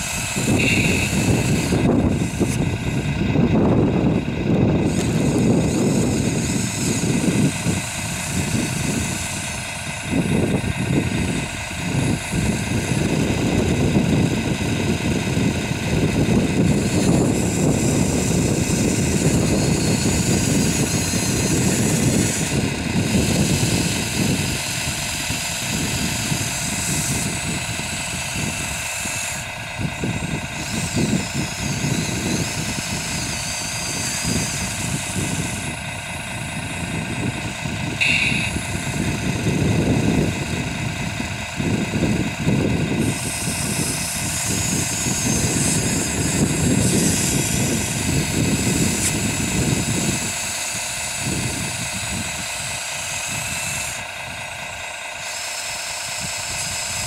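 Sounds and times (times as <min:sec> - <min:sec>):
electric motors whining: 0:00.0 - 0:57.0
steady low rumble: 0:00.0 - 0:57.0.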